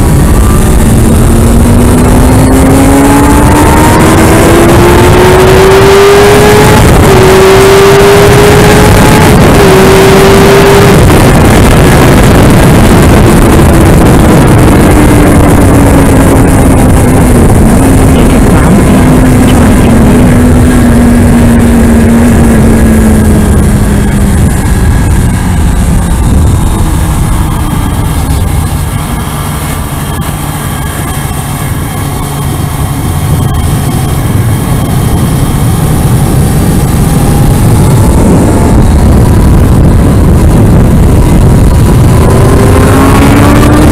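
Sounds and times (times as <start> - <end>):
motorcycle engine at speed: 0.0 - 43.9
wind rush: 0.0 - 43.9.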